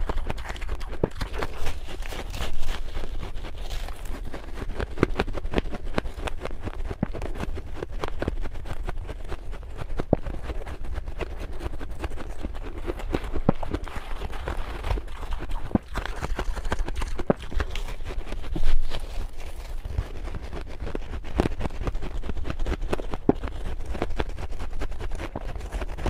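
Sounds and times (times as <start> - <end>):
crunchy chewing of frost: 0.0 - 26.0
low steady hum: 0.0 - 26.0.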